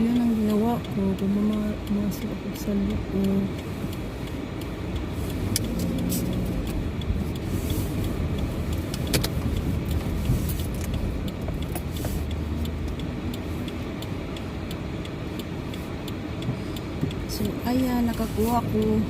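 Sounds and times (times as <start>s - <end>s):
car engine rumble: 0.0s - 19.0s
light clicks and ticks: 0.0s - 19.0s.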